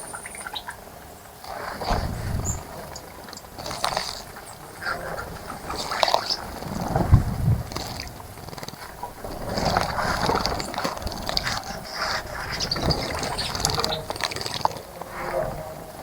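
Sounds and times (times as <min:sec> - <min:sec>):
birds splashing in water: 0:00.0 - 0:16.0.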